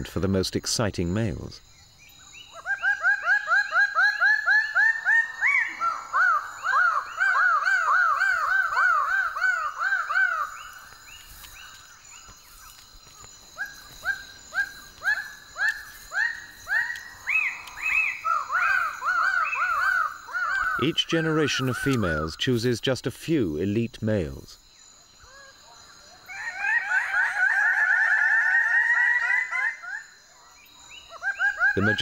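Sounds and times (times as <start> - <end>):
birds calling: 0.0 - 32.0.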